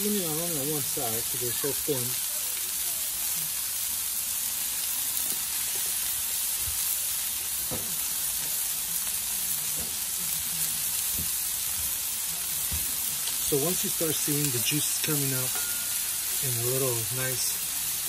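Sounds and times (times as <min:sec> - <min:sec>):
burger patties sizzling on griddle: 0:00.0 - 0:18.0.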